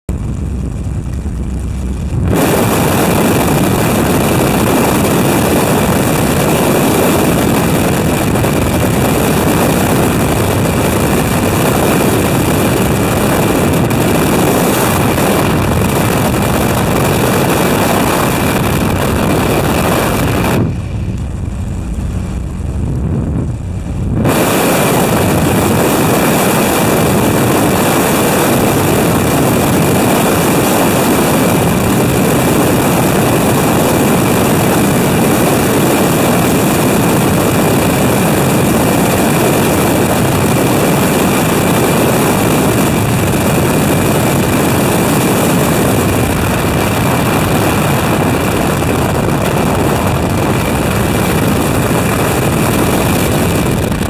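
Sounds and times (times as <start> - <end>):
propeller plane engine running: 0.0 - 54.0
wind rush over microphone: 0.1 - 54.0.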